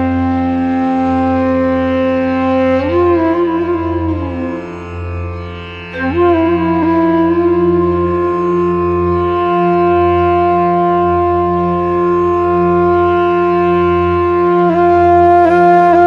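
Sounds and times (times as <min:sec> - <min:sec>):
held wind instrument note: 0:00.0 - 0:04.8, 0:05.9 - 0:16.0.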